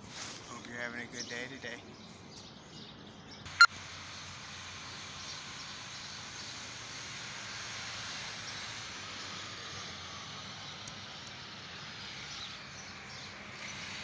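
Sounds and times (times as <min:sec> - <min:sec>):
outdoor rushing hiss: 0:00.0 - 0:02.1, 0:03.5 - 0:14.0.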